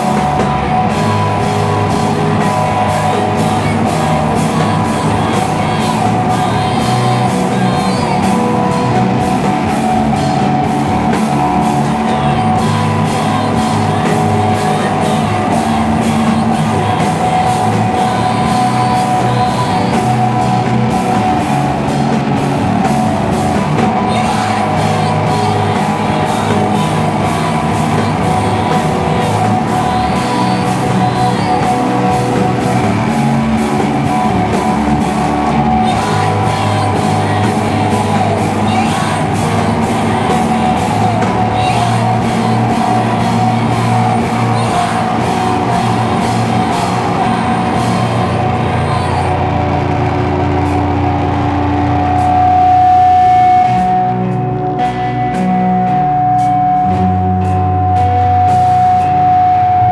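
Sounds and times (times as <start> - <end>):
distorted guitars droning: 0.0 - 59.9
person singing: 0.0 - 59.9
steady drum beat: 0.0 - 59.9.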